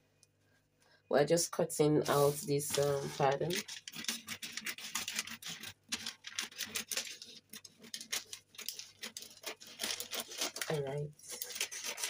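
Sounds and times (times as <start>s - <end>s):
paper rustling: 2.1s - 12.0s
scissors snipping paper: 2.1s - 12.0s.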